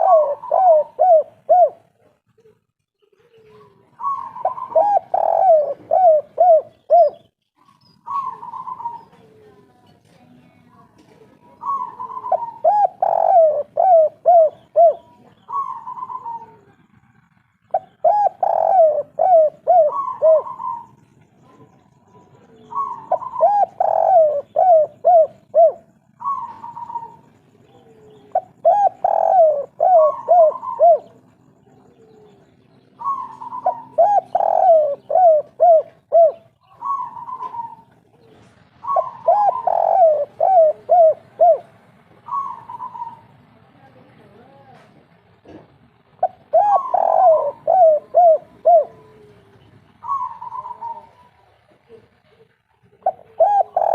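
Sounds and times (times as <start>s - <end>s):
dove cooing: 0.0s - 9.8s, 11.0s - 43.6s, 45.4s - 53.9s.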